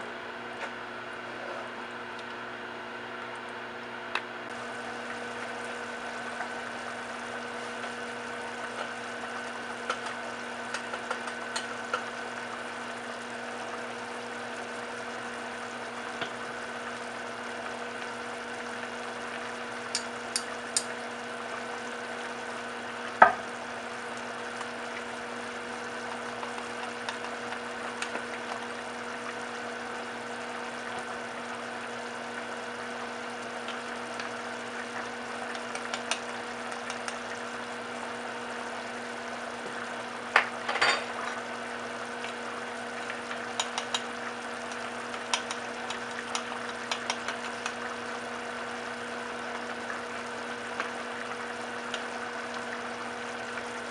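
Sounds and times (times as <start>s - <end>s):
broth bubbling at a boil: 0.1s - 53.9s.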